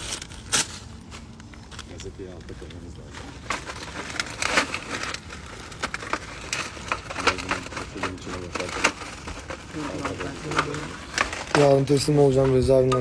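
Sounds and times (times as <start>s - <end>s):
dry wood cracking and snapping: 0.0s - 13.0s.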